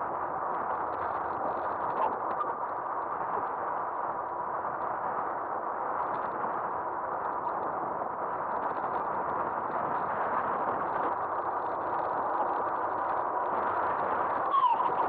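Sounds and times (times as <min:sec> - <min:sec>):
road noise from bike: 0:00.0 - 0:15.0.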